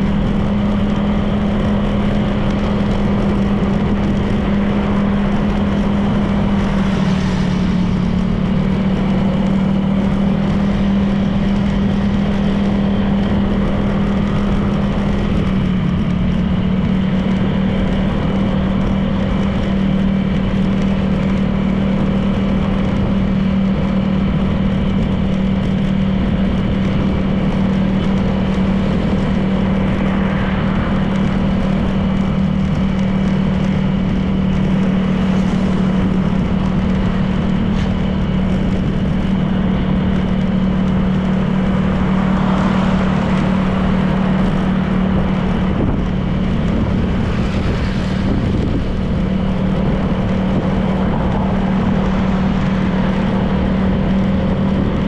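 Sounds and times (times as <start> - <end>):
road noise: 0.0 - 55.0
scooter engine running: 0.0 - 55.0.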